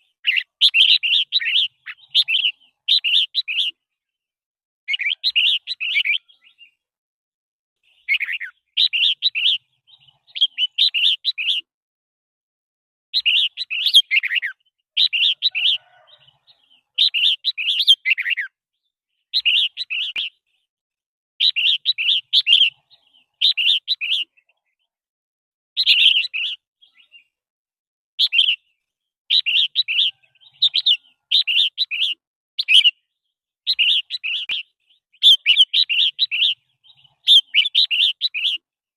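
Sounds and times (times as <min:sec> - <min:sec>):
bird singing warbled phrases: 0:00.0 - 0:04.3, 0:04.9 - 0:06.9, 0:07.8 - 0:11.7, 0:13.1 - 0:20.7, 0:21.4 - 0:25.0, 0:25.8 - 0:27.4, 0:28.2 - 0:38.8.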